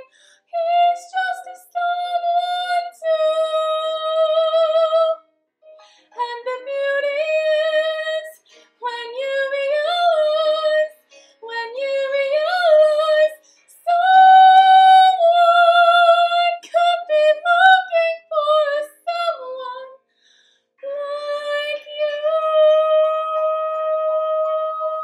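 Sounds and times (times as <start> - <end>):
soprano singing a ballad: 0.0 - 5.3, 6.2 - 20.0, 20.8 - 25.0.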